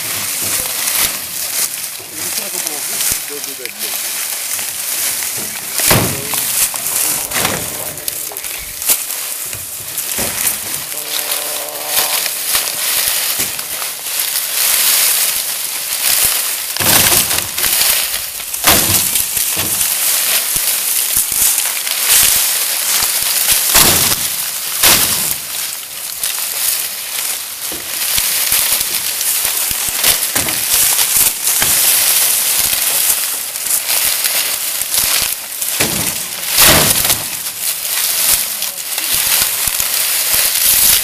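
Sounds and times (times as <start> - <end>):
sugarcane stalks rustling: 0.0 - 41.0.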